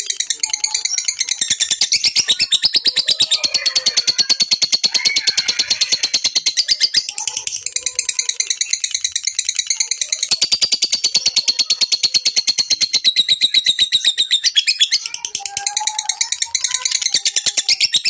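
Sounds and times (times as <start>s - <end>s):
lovebird chattering: 0.0s - 18.0s.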